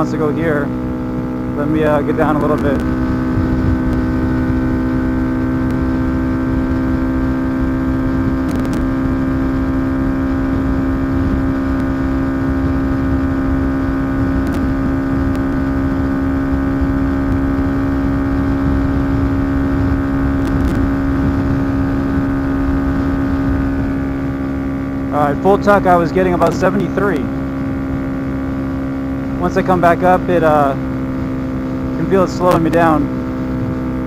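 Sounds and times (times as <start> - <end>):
motorcycle engine at high pitch: 0.0 - 34.0
wind rush on microphone: 0.9 - 34.0.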